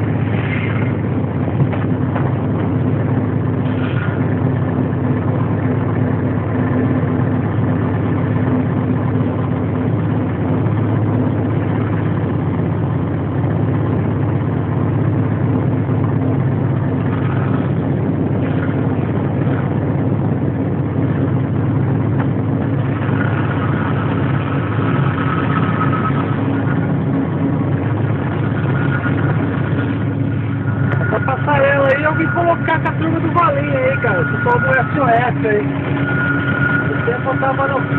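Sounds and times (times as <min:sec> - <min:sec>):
constant low hum: 0:00.0 - 0:37.9
diesel locomotive engine running: 0:00.0 - 0:37.9.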